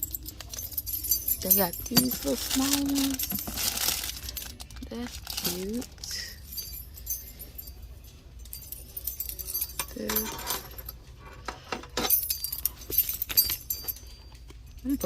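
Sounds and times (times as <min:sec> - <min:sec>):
keys jangling: 0:00.0 - 0:04.7, 0:05.4 - 0:15.0.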